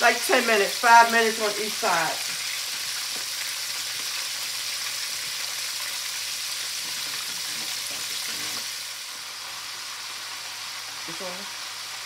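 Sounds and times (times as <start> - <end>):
chicken wings deep-frying: 0.0 - 12.0.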